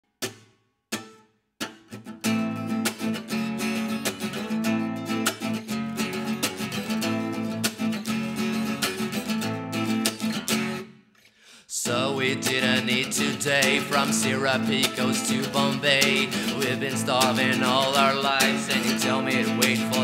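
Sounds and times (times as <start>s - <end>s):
acoustic guitar strumming: 0.2s - 11.1s, 11.8s - 20.0s.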